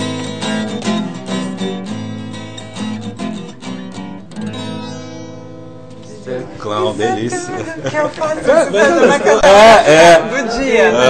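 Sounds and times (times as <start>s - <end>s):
acoustic guitar strumming chords: 0.0s - 10.5s.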